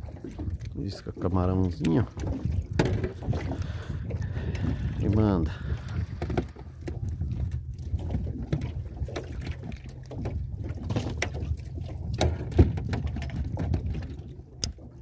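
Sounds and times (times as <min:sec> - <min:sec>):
waves slapping boat hull: 0:00.0 - 0:15.0.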